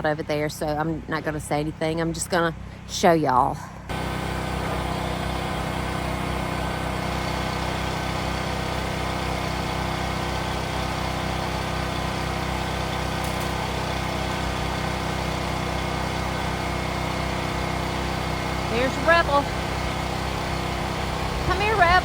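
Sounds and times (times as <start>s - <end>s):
generator engine droning: 3.8s - 22.0s.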